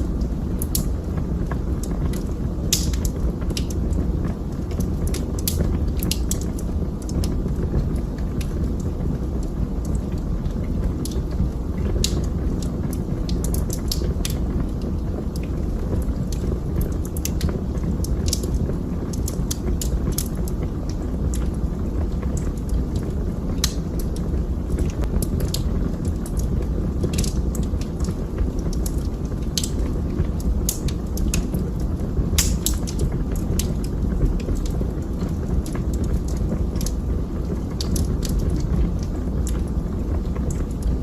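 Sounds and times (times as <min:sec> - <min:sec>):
low rumble of flames: 0:00.0 - 0:41.0
wood fire crackling and popping: 0:00.0 - 0:41.0.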